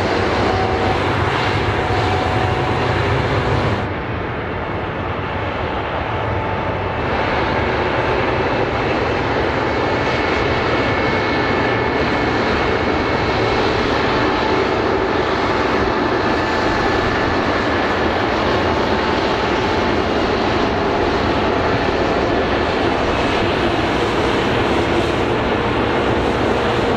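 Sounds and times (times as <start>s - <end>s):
helicopter turbines and rotor: 0.0s - 26.9s.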